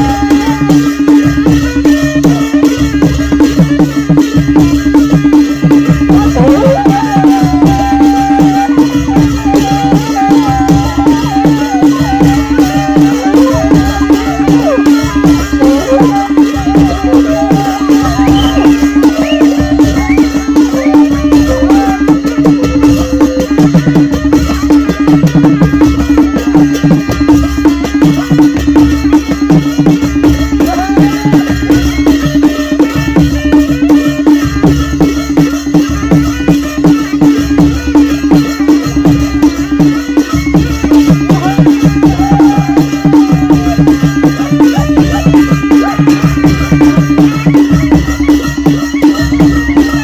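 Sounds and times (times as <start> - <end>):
cymbals clashing: 0.0 - 50.0
drums beating steady rhythm: 0.0 - 50.0.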